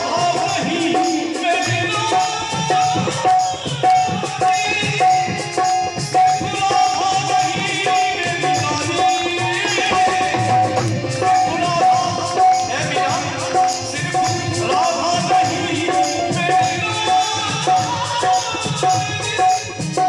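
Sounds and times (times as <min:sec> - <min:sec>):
electronic keyboard: 0:00.0 - 0:20.0
hand drum rhythm: 0:00.0 - 0:20.0
harmonium: 0:00.0 - 0:20.0
man singing: 0:00.0 - 0:20.0.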